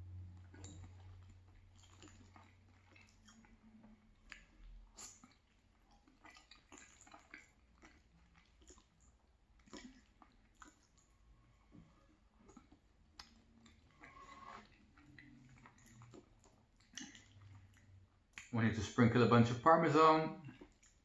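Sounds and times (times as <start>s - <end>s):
close chewing with mouth smacks: 0.0s - 18.7s, 20.4s - 21.0s.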